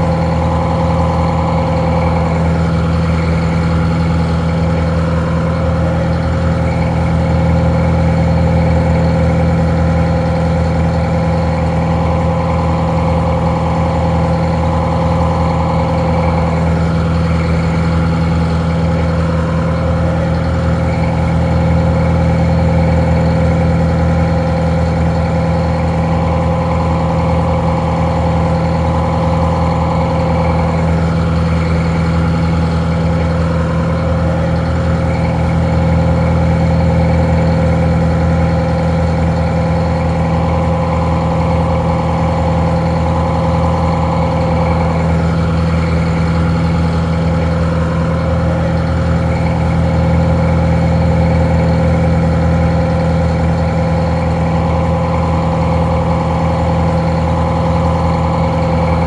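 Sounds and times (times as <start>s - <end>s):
muffled diesel engine idling: 0.0s - 59.0s.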